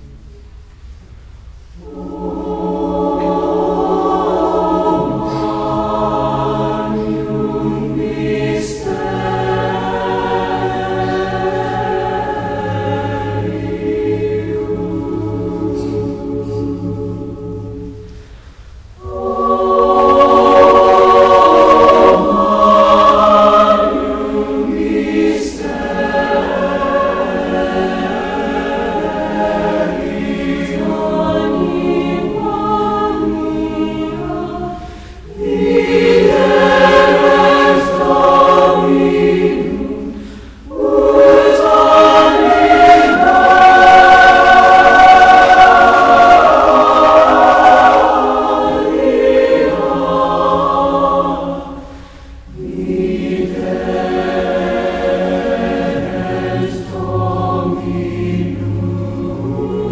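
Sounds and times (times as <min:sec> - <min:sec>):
choir singing held chords: 0:00.0 - 0:59.9.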